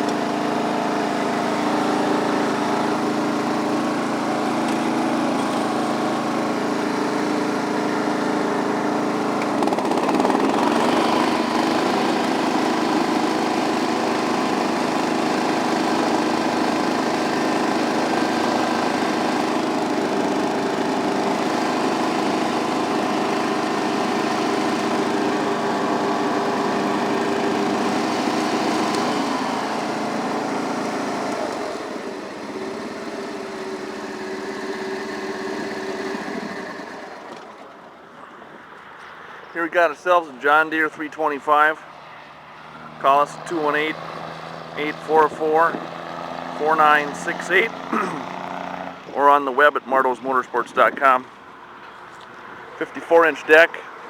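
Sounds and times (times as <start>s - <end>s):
lawn tractor engine running: 0.0s - 39.0s, 39.6s - 54.0s.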